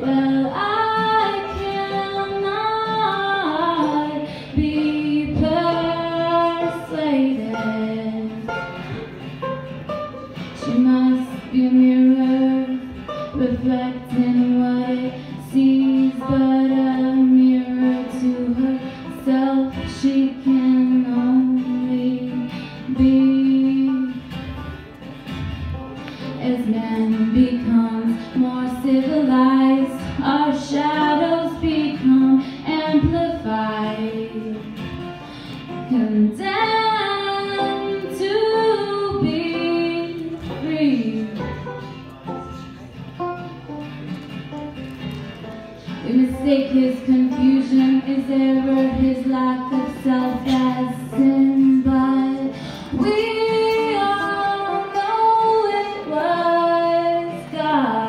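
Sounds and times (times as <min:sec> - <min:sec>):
woman singing: 0:00.0 - 0:08.8, 0:10.6 - 0:24.6, 0:26.4 - 0:35.0, 0:35.7 - 0:41.6, 0:45.9 - 0:58.0
acoustic guitar: 0:00.0 - 0:58.0
banjo: 0:00.0 - 0:58.0.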